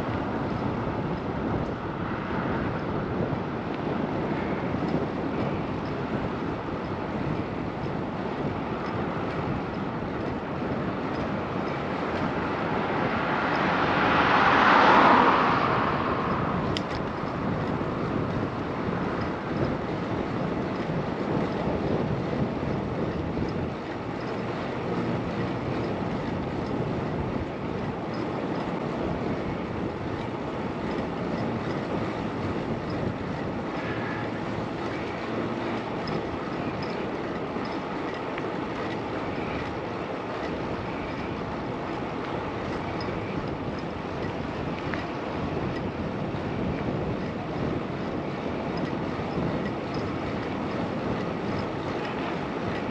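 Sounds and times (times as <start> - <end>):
bicycle road noise: 0.0 - 52.9
wind rushing over microphone: 0.0 - 52.9.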